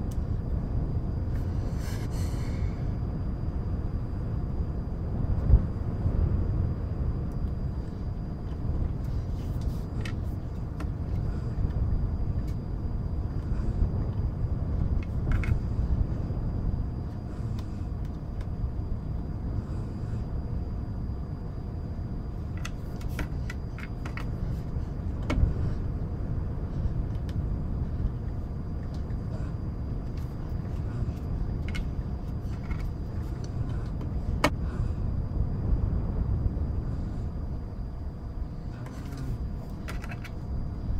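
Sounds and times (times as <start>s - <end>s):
low wind-like rumble: 0.0s - 40.9s.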